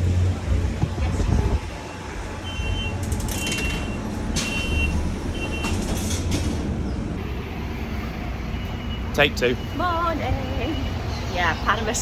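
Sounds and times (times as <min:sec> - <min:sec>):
large vehicle engine rumble: 0:00.0 - 0:12.0.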